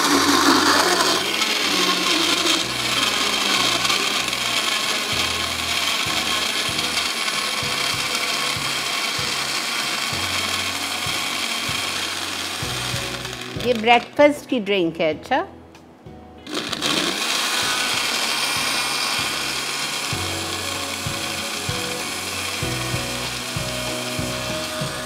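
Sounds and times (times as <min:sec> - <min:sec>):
blender running: 0:00.0 - 0:14.1, 0:16.4 - 0:25.0.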